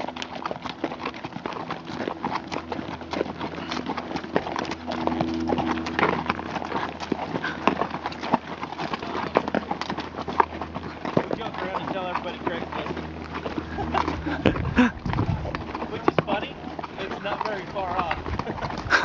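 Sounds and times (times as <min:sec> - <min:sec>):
horse hooves clip-clopping on stony trail: 0:00.0 - 0:19.0.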